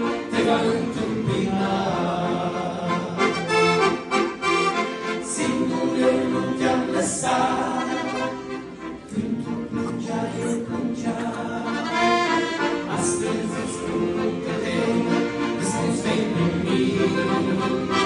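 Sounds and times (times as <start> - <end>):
men singing in harmony: 0.0 - 3.8, 5.2 - 8.4, 9.0 - 18.0
accordions playing: 0.0 - 18.0.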